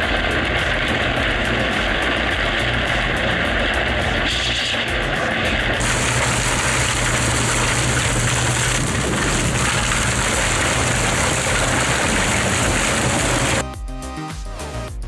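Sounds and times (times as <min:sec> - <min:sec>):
heavy machinery low hum: 0:00.0 - 0:13.6
hissing wash of noise: 0:00.0 - 0:13.6.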